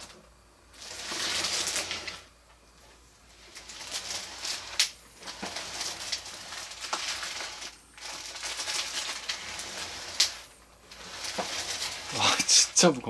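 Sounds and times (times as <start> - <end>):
packing material rustling: 0.8 - 2.3, 3.4 - 13.0.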